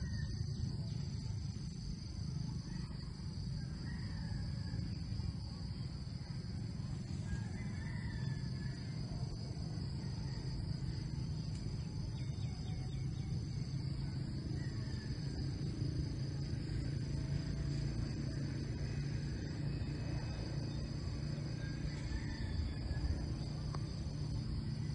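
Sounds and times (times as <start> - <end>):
forest insects droning: 0.0 - 24.9
low steady rumble: 0.0 - 24.9.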